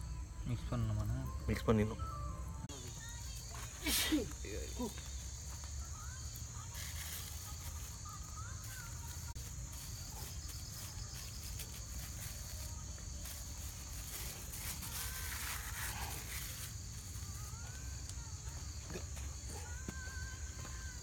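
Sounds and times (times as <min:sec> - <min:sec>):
crickets and insects chirring: 0:00.0 - 0:21.0.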